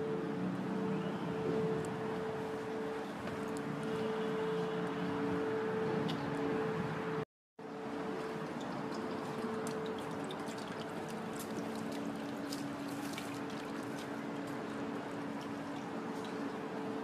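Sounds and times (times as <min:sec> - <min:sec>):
constant low hum: 0:00.0 - 0:17.0.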